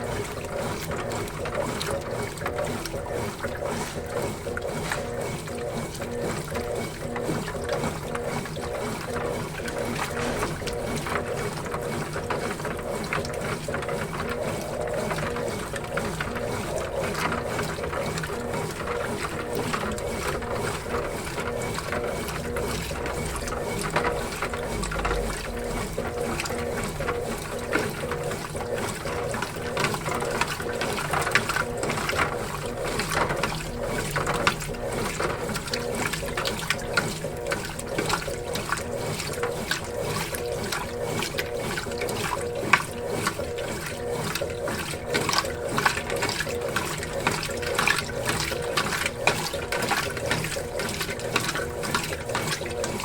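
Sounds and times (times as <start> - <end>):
washing machine motor hum: 0.0 - 53.0
water and clothes churning: 0.0 - 53.0.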